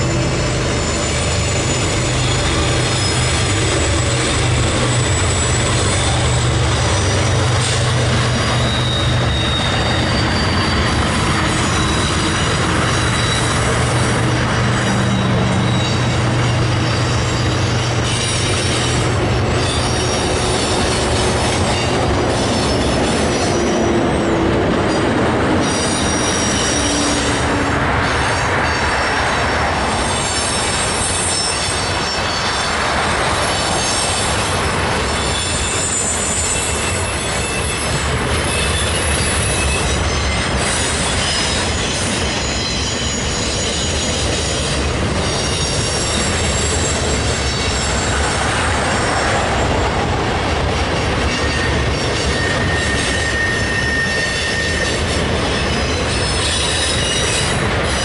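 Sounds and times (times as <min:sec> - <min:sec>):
high wheel squeals: 0:00.0 - 0:50.1, 0:50.8 - 0:58.0
train wheels rumbling on bridge: 0:00.0 - 0:58.0.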